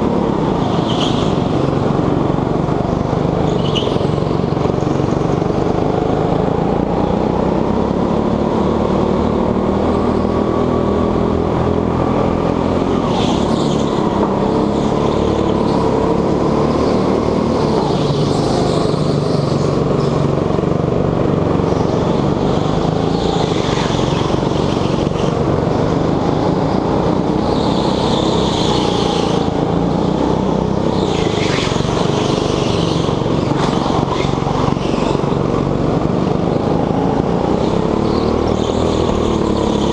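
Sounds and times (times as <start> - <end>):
go-kart engine accelerating: 0.0 - 39.9
nearby go-kart engines: 0.0 - 39.9.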